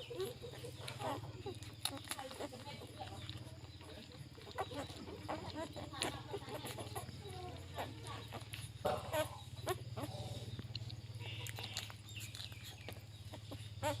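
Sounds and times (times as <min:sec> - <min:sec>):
chickens clucking: 0:00.0 - 0:14.0
steady low hum: 0:00.0 - 0:14.0.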